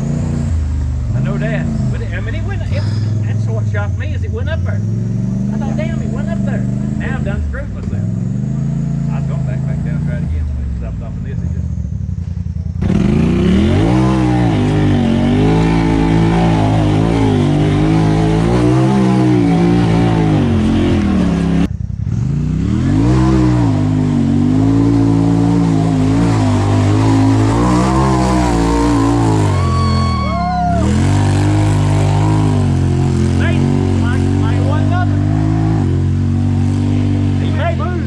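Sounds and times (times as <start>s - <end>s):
engine revving hard: 0.0s - 10.5s, 12.8s - 38.0s.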